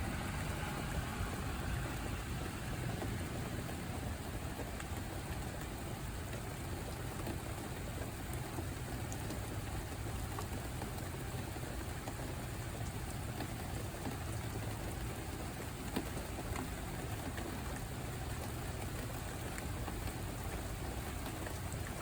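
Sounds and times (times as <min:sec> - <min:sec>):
raindrops ticking: 0:00.0 - 0:22.0
steady rain falling: 0:00.0 - 0:22.0.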